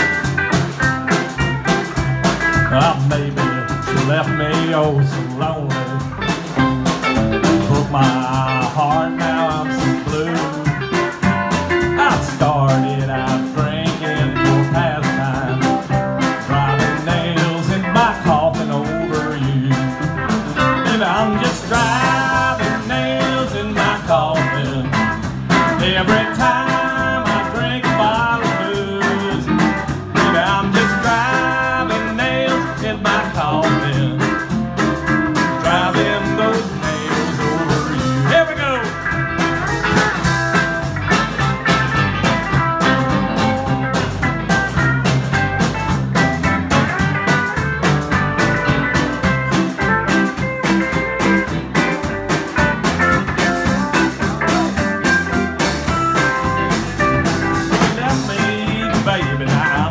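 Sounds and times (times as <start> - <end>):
country band playing: 0.0 - 59.9
electric guitar lead: 0.0 - 59.9.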